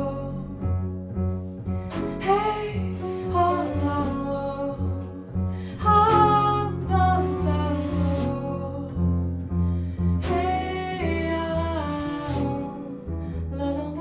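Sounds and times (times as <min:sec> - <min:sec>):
woman singing into microphone: 0:00.0 - 0:00.8, 0:01.9 - 0:09.2, 0:10.2 - 0:14.0
piano: 0:00.0 - 0:14.0
plucked double bass: 0:00.0 - 0:14.0.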